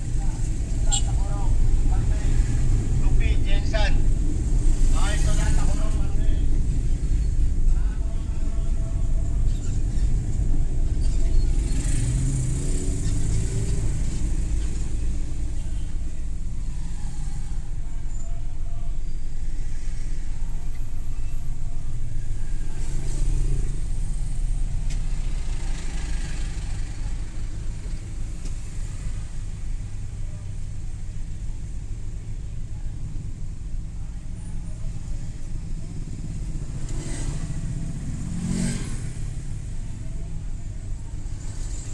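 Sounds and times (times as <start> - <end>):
car engine and road noise: 0.0 - 41.9
vehicles passing by: 0.0 - 41.9.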